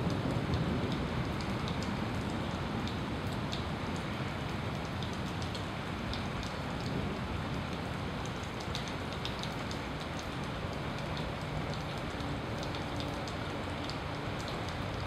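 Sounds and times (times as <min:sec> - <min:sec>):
raindrops ticking: 0:00.0 - 0:15.0
steady rain: 0:00.0 - 0:15.0.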